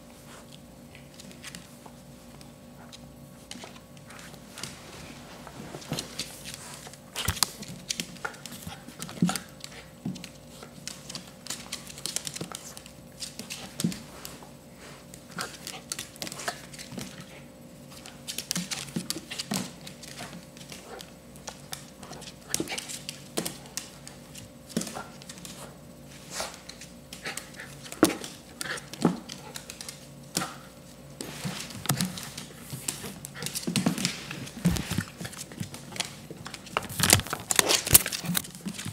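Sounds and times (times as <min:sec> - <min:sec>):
paws and claws on hardwood floor: 0:00.0 - 0:38.9.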